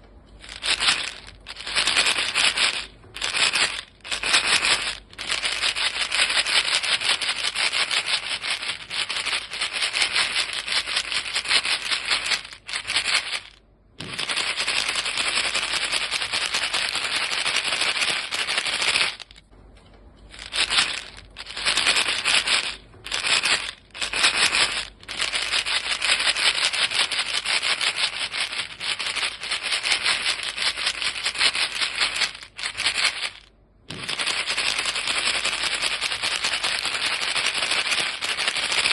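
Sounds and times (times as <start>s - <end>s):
gum pellets rattling in a box: 0.3s - 19.5s, 20.3s - 38.9s.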